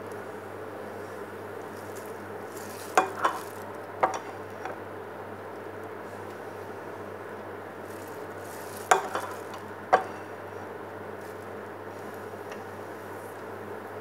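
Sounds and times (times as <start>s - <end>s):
batter sizzling in donut maker: 0.0s - 5.0s, 5.6s - 14.0s.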